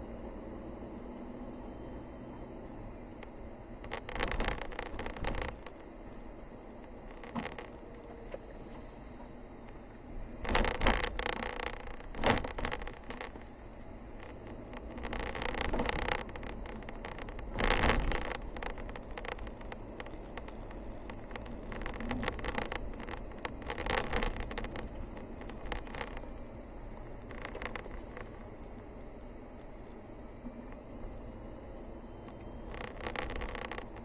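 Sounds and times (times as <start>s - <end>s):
vehicle road rumble: 0.0s - 34.0s.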